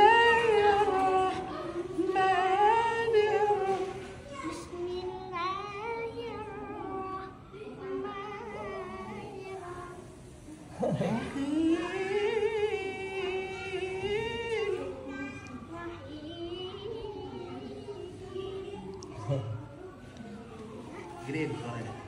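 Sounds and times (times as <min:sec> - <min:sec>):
person reciting melodically: 0:00.0 - 0:19.1.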